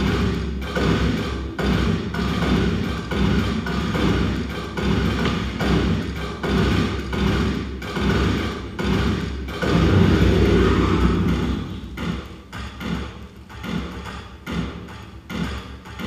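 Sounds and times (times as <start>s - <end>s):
thudding electronic percussion beats: 0.0s - 16.0s.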